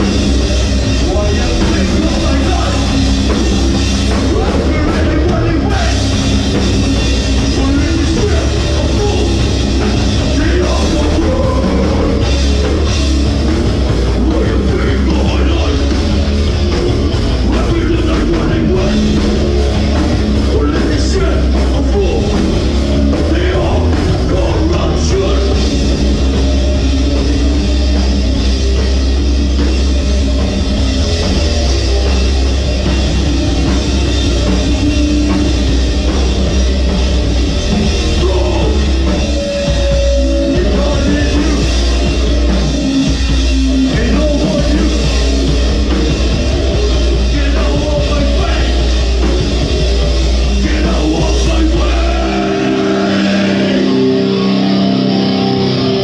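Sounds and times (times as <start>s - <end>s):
punk band playing: 0.0s - 56.0s.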